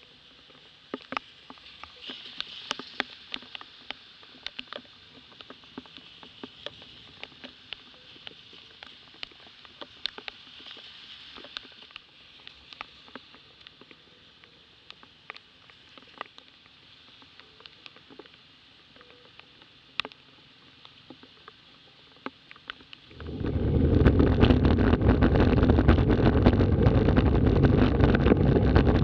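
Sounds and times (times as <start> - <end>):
sharp ticks of raindrops: 0.0 - 29.0.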